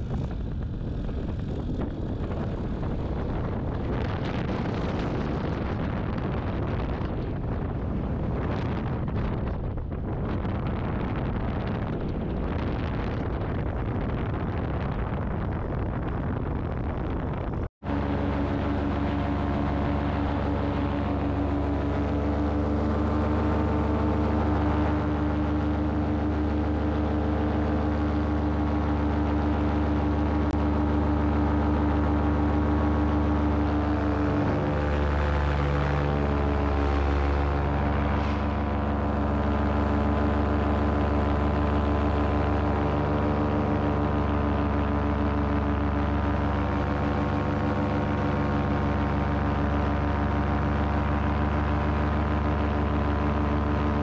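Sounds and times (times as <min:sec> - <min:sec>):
paramotor engine droning: 0:00.0 - 0:54.0
wind rushing over microphone: 0:00.0 - 0:54.0.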